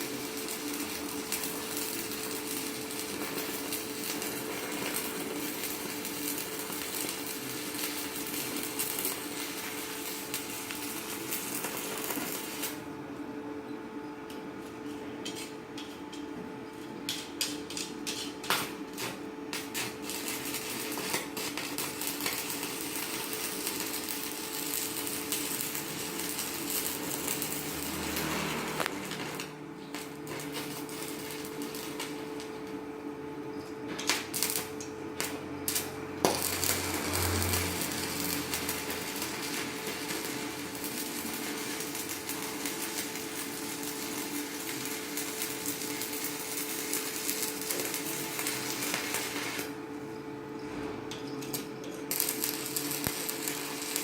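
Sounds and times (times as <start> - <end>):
welding arc crackle and hiss: 0.0 - 12.9, 14.3 - 50.1, 50.7 - 54.0.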